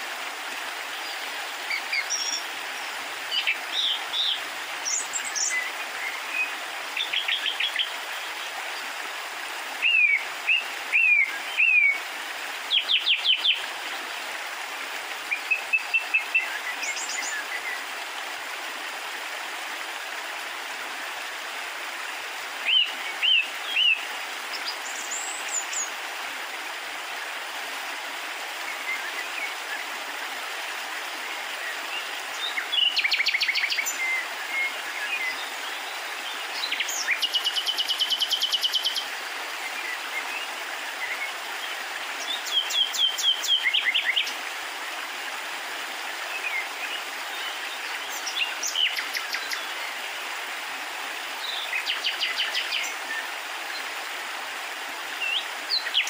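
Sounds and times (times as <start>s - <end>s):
birds chirping: 0.8s - 14.2s, 15.1s - 19.0s, 20.0s - 27.4s, 31.0s - 44.4s, 46.2s - 50.4s, 51.2s - 54.0s, 55.0s - 56.0s.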